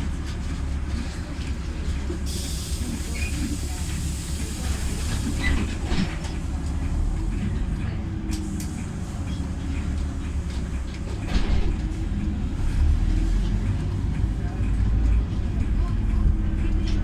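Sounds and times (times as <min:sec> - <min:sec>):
bus cabin rattling and clicking: 0:00.0 - 0:17.0
bus engine and road rumble: 0:00.0 - 0:17.0.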